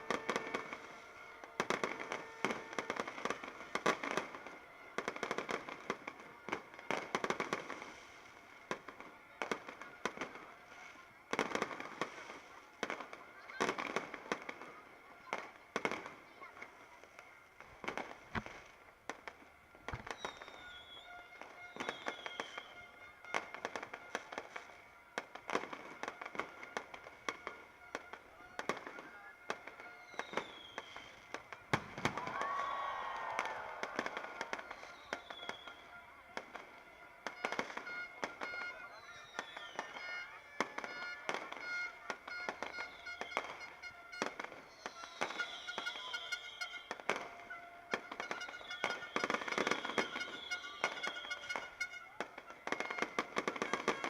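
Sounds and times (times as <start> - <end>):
fireworks bangs and crackles: 0.0 - 54.0
fireworks falling whistles: 0.0 - 54.0.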